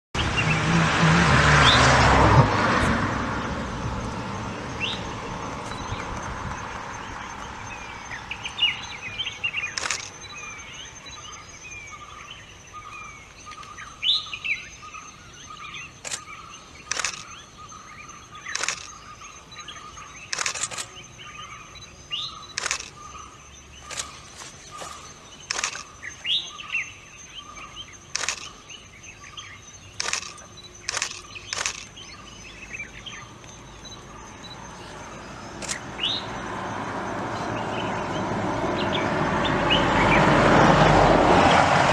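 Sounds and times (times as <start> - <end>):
birds chirping: 0.1 - 2.0, 2.8 - 40.4
vehicle noise: 0.1 - 41.9.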